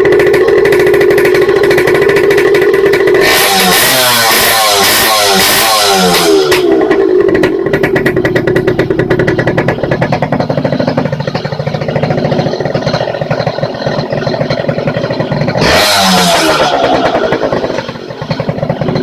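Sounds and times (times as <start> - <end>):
two-stroke engine idling and revving: 0.0 - 19.0.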